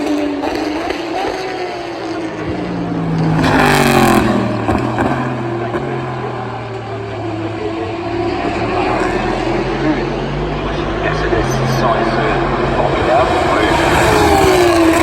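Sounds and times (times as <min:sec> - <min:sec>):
race car passing: 0:00.0 - 0:15.0.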